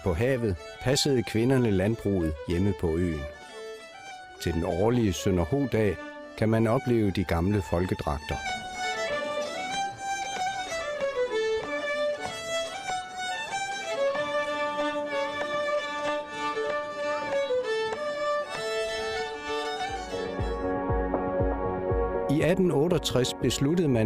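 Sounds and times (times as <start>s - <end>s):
fiddle folk dance tune: 0.0s - 24.0s.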